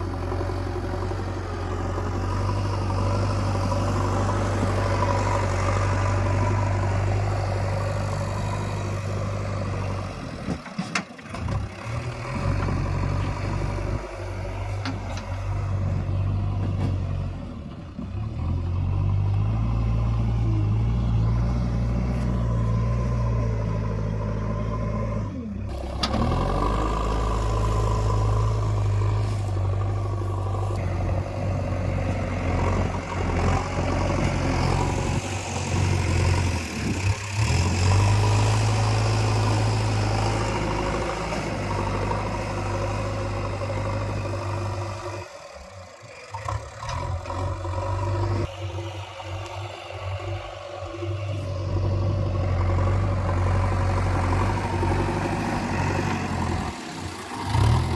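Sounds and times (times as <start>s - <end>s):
diesel engine under changing load: 0.0s - 57.9s.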